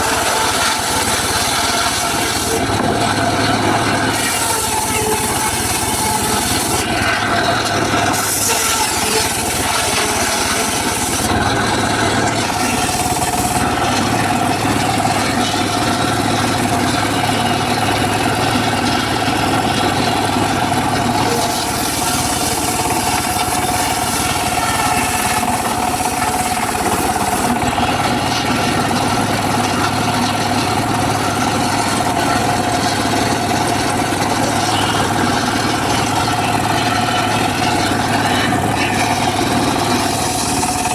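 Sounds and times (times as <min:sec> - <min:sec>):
circular saw cutting wood: 0:00.0 - 0:40.9.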